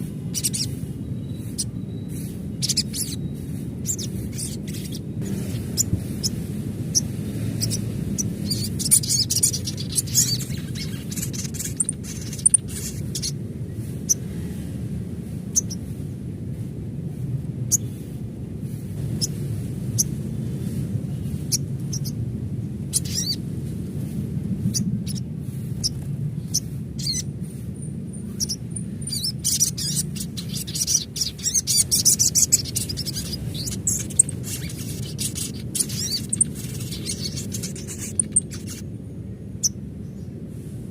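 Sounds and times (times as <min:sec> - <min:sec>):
bird twittering chirps: 0:00.0 - 0:14.6, 0:15.4 - 0:16.1, 0:17.6 - 0:18.1, 0:18.7 - 0:22.2, 0:22.8 - 0:23.5, 0:24.6 - 0:40.4
low background hum: 0:00.0 - 0:40.9.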